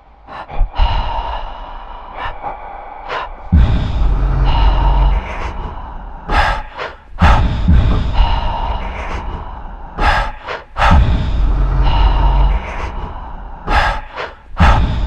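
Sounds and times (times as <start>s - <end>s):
heavy gasping breaths: 0.1s - 15.0s
loud deep rumble: 0.6s - 15.0s.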